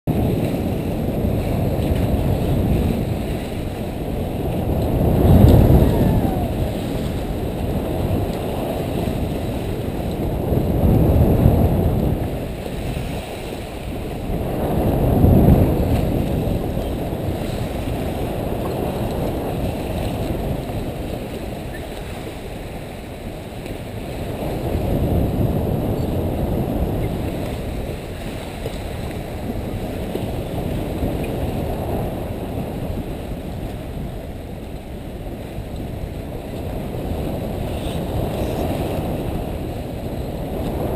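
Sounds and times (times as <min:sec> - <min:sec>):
water rushing past a bow: 0:00.0 - 0:40.9
wind buffeting microphone: 0:00.1 - 0:40.9.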